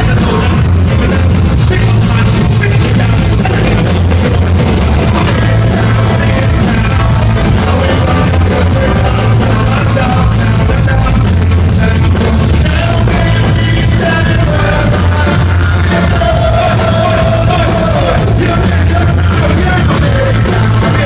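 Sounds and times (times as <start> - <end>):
heavy bass line: 0.0 - 21.0
live band music: 0.0 - 21.0
steady drum beat: 0.0 - 21.0.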